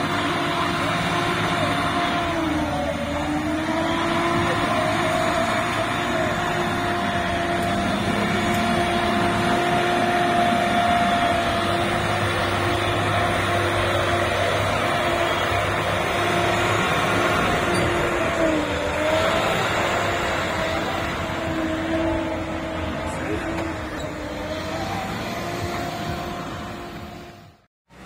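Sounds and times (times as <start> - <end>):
diesel engine working: 0.0 - 28.0
steady mechanical whine: 0.0 - 28.0.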